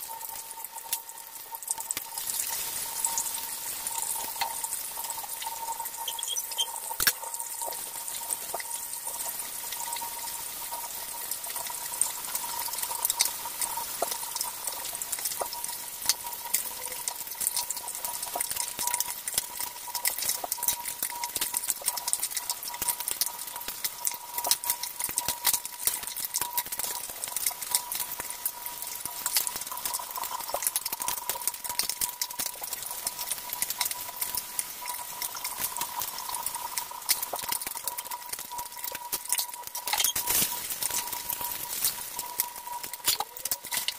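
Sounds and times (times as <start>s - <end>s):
fish sizzling in hot oil: 0.0s - 43.9s.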